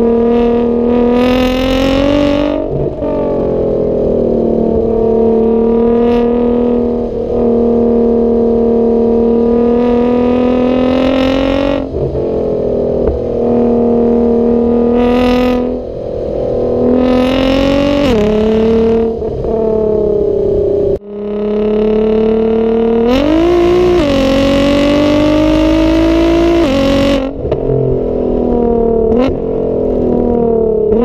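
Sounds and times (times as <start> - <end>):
race car engine droning under load: 0.0 - 31.0
turbo and intake rushes: 0.0 - 31.0.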